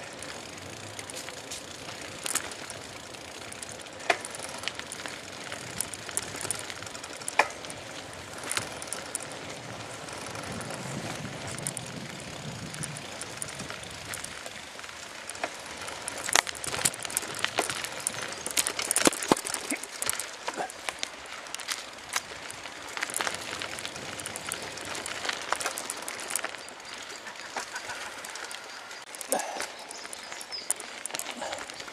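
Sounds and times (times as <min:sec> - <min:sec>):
bicycle rattling over bumps: 0:00.0 - 0:31.9
bicycle rolling on dirt path: 0:00.0 - 0:31.9.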